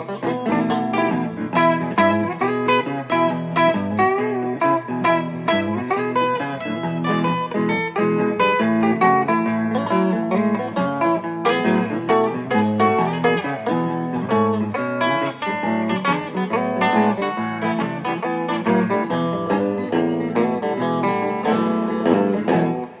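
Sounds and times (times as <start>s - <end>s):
plucked string instrument boogie: 0.0s - 23.0s.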